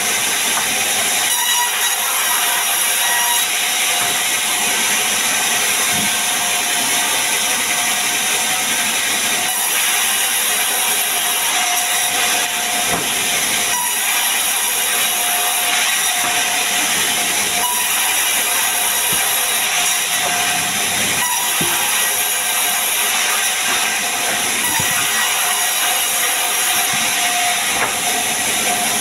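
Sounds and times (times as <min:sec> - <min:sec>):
band saw cutting wood: 0:00.0 - 0:29.0.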